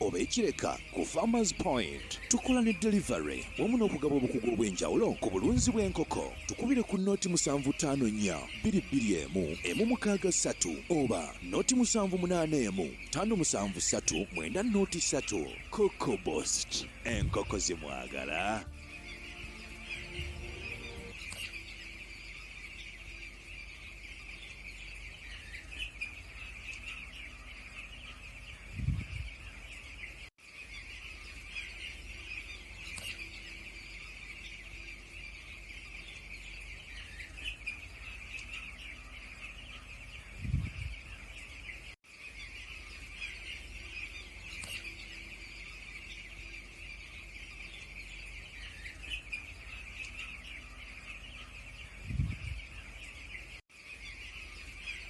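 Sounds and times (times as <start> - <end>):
poultry flock chirping: 0.0 - 55.0.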